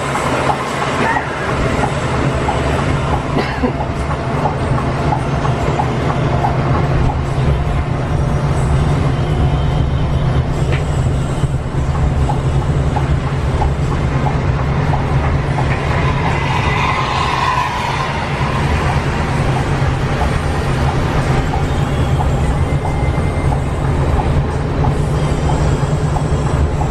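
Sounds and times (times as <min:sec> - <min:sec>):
bus engine drone: 0:00.0 - 0:26.9
road noise inside bus: 0:00.0 - 0:26.9.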